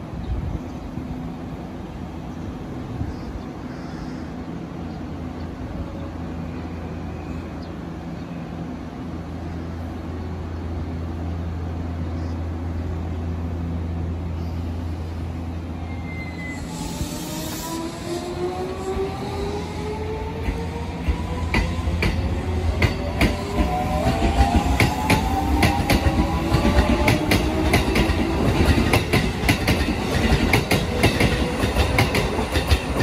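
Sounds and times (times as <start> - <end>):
electric train humming: 4.3 - 33.0.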